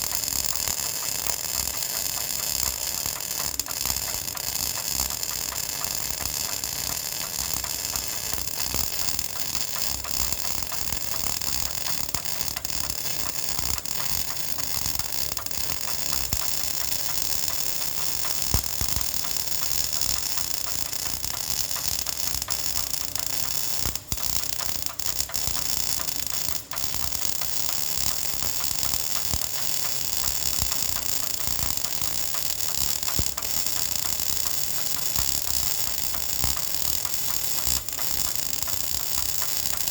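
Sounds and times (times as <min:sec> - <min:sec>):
welding arc hissing and crackling: 0:00.0 - 0:39.9.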